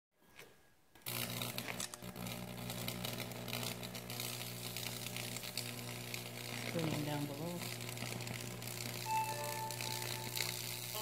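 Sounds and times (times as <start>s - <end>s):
electric crackling and sizzling on wood: 1.0s - 11.0s.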